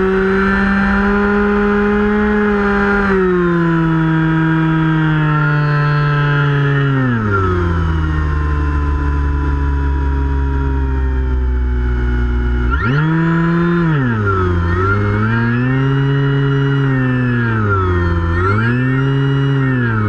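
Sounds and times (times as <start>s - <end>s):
electric motor and propeller: 0.0s - 20.0s.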